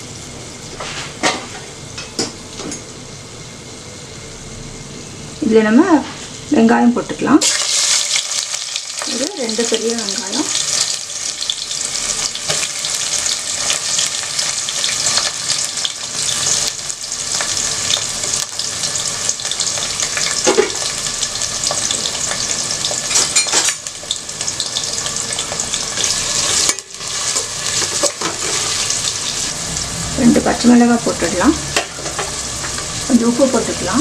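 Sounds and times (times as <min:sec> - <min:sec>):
onions sizzling in oil: 0:00.0 - 0:34.0.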